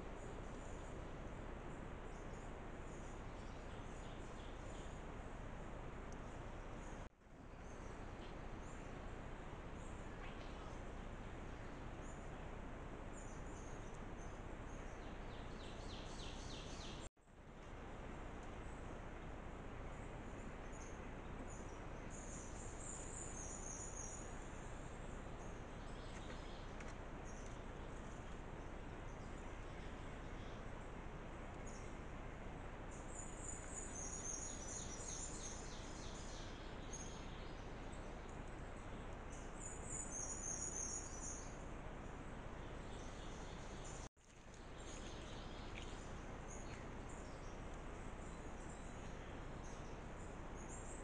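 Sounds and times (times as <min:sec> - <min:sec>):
outdoor background hiss: 0:00.0 - 0:51.0.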